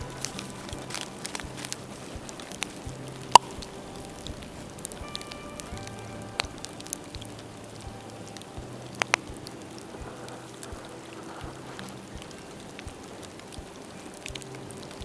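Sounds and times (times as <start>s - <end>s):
bamboo popping and cracking: 0.0s - 15.0s
bonfire crackling: 0.0s - 15.0s.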